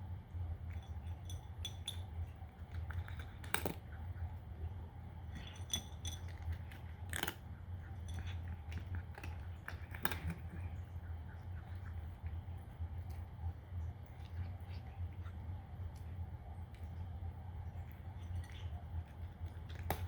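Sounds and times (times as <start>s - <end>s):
low steady hum: 0.0s - 20.0s
cat crunching dry kibble: 0.6s - 4.4s, 5.2s - 20.0s.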